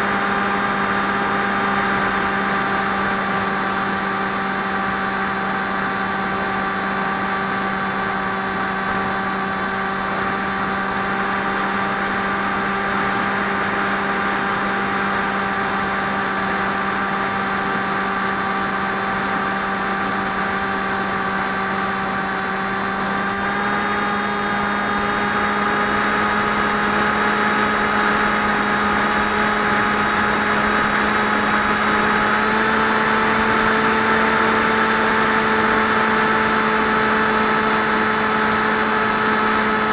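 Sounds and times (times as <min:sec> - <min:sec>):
model aircraft motor humming: 0:00.0 - 0:39.9.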